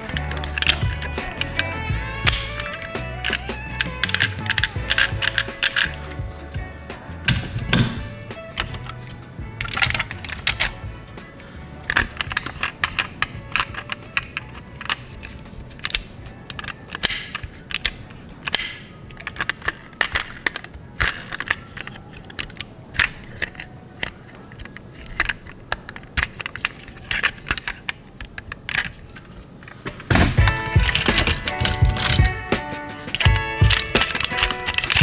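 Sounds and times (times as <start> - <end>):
model car clicking and knocking: 0.0 - 6.4, 7.3 - 35.0.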